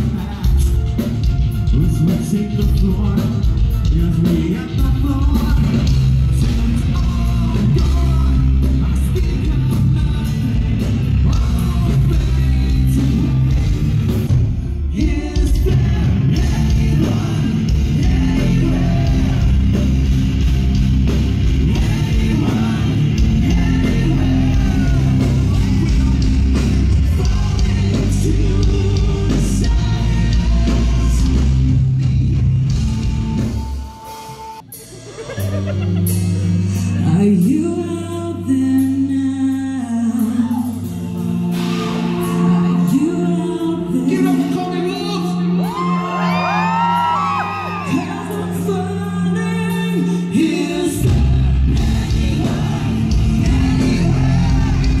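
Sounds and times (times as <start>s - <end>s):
rock music with singing: 0.0s - 55.0s.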